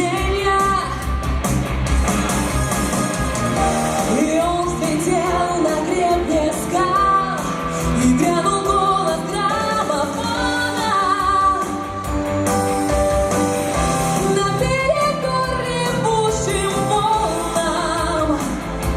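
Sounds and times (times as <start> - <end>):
pop song with singer: 0.0 - 18.9.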